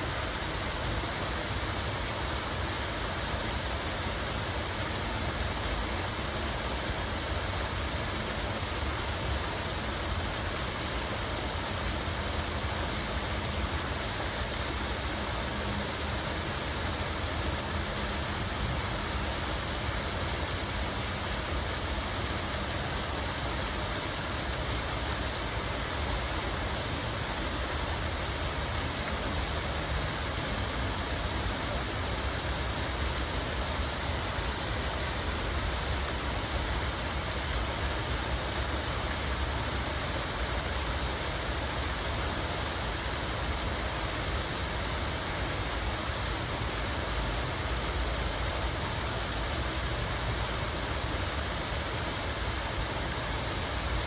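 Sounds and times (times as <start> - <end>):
rushing falling water: 0.0 - 54.0.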